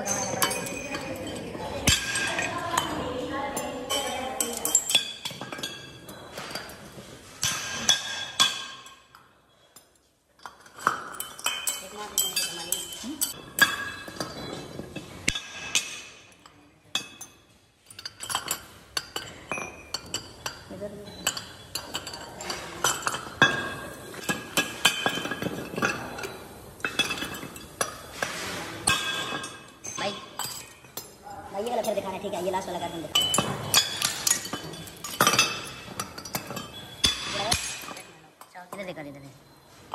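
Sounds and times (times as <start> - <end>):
metal wheel hubs clinking: 0.0 - 38.0.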